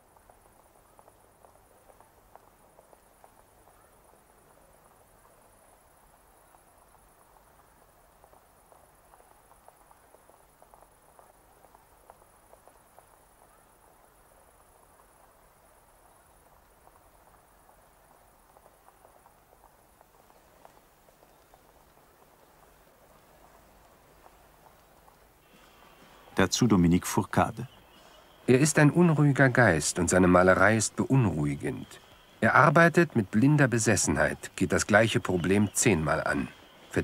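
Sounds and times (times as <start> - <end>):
faint high-pitched hiss: 0.0 - 37.0
light crackle: 0.0 - 37.0.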